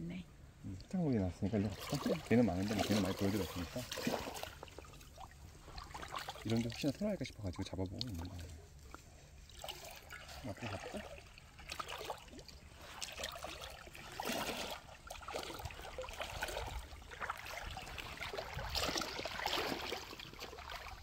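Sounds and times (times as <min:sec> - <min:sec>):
boots wading through water: 0:01.5 - 0:21.0.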